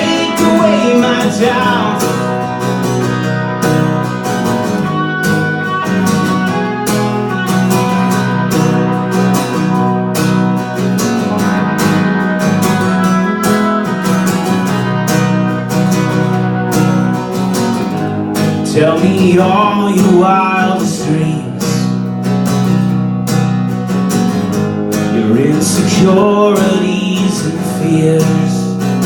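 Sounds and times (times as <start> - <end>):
strummed guitar music: 0.0 - 29.0.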